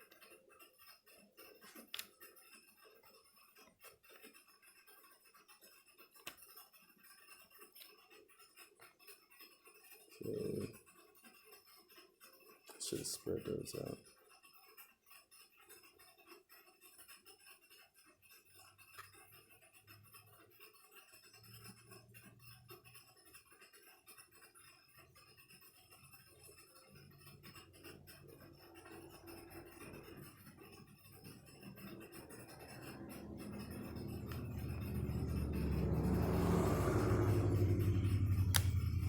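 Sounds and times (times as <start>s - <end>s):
faint scratching on laptop case: 0.0s - 39.0s.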